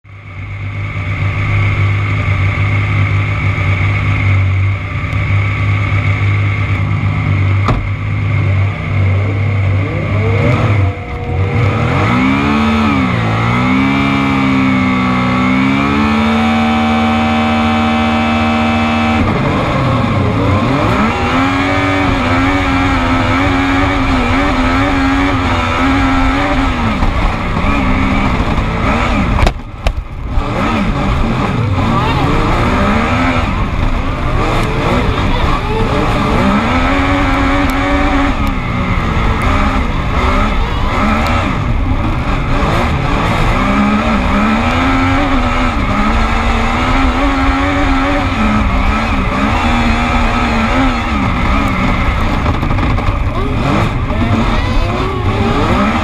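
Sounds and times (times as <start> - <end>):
race buggy engine revving: 0.1 - 56.0.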